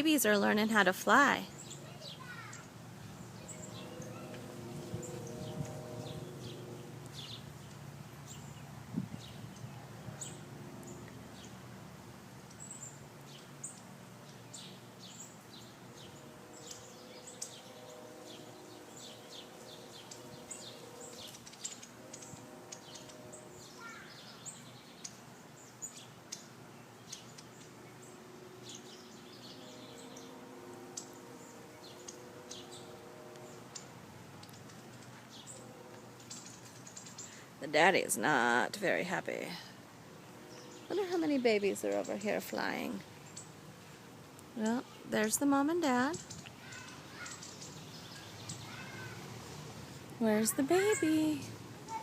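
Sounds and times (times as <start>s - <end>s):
small birds chirping: 0.0s - 11.8s, 12.4s - 52.0s.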